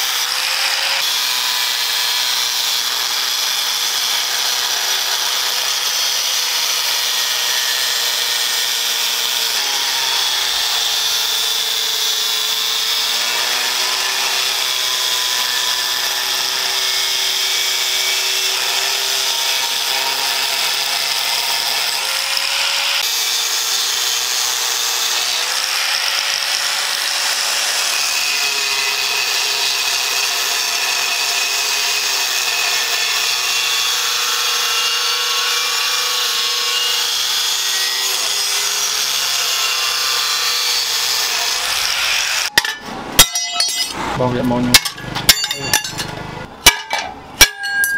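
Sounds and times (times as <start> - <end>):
angle grinder cutting steel: 0.0 - 47.9.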